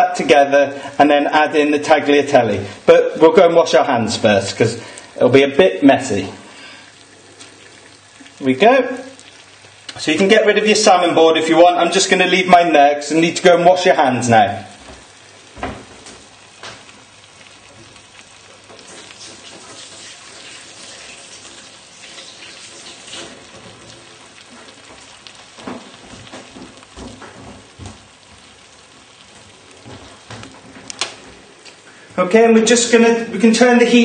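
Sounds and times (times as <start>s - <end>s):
frying pan sizzling: 0.0s - 34.0s.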